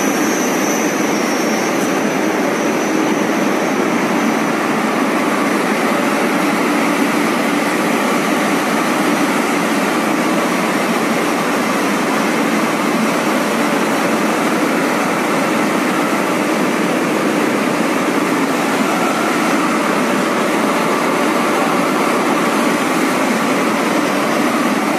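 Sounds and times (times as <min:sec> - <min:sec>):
coating machine whirring: 0:00.0 - 0:24.9.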